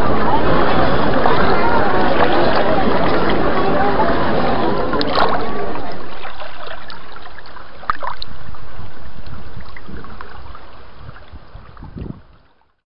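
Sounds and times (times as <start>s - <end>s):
water noise: 0.0s - 12.8s
wind: 0.0s - 12.8s.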